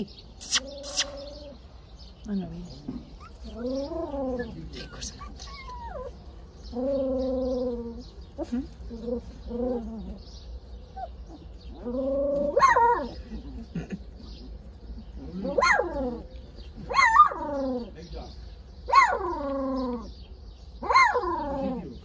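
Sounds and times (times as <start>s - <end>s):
puppies whining: 0.4s - 1.6s, 2.8s - 18.0s, 18.9s - 20.2s, 20.8s - 22.0s
puppies yelping: 0.4s - 1.7s, 3.0s - 18.0s, 18.9s - 22.0s.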